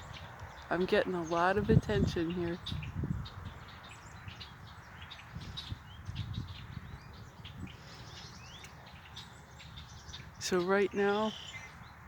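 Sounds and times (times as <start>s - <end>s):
blackbirds alarm calls: 0.0s - 12.0s.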